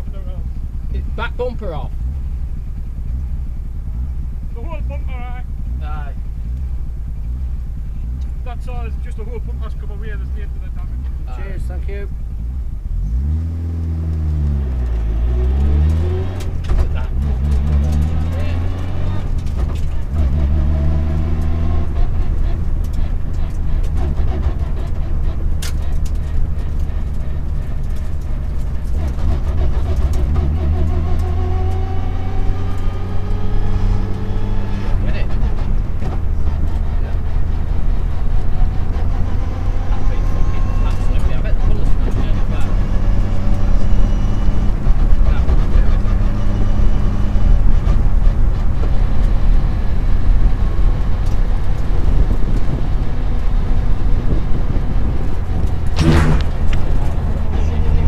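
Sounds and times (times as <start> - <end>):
rally car engine pulling away: 7.8 - 58.0.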